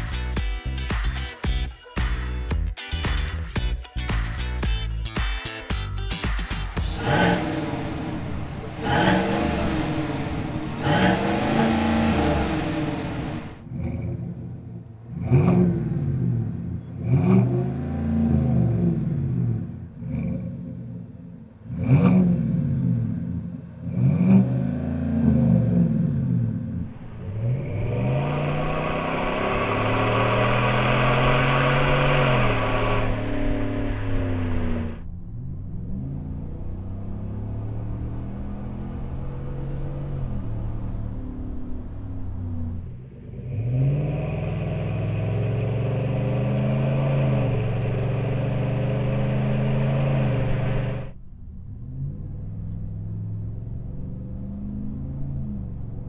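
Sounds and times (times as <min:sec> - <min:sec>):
truck engine revving: 0:06.2 - 0:21.0, 0:21.6 - 0:56.0.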